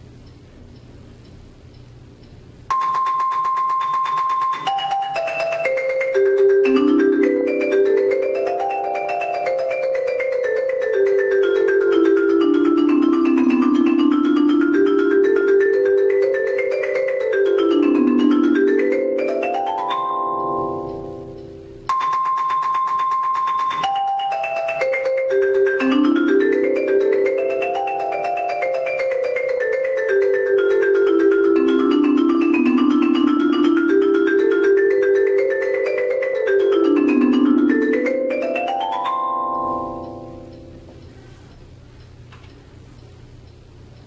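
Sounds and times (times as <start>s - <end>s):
marimba played with mallets: 2.7s - 41.5s.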